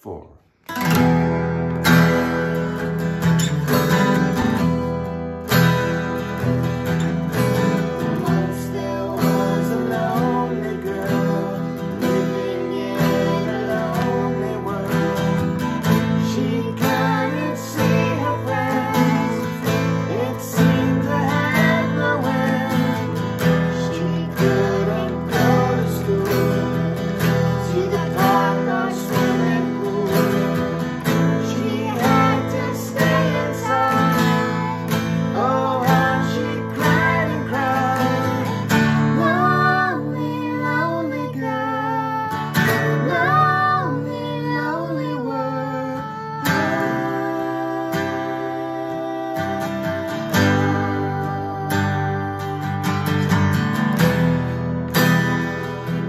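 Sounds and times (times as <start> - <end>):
acoustic guitars strumming: 0.5 - 56.0
man and girl singing duet: 1.9 - 56.0.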